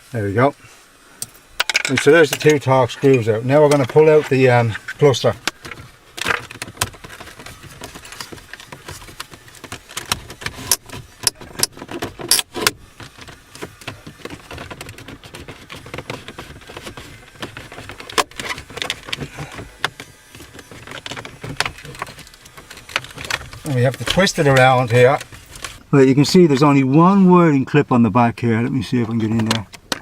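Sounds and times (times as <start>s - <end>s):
hard plastic clicking and scraping: 1.2s - 25.9s, 29.0s - 30.0s.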